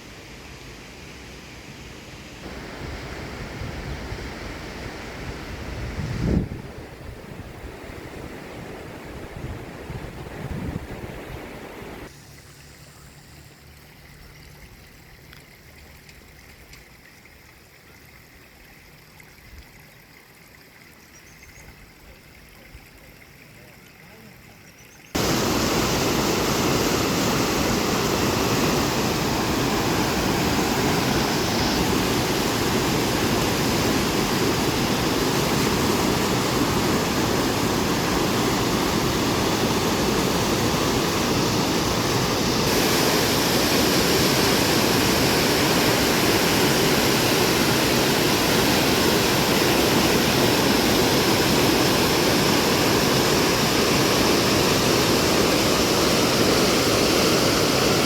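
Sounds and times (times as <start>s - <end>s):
floodwater roaring in stream: 0.0s - 58.0s.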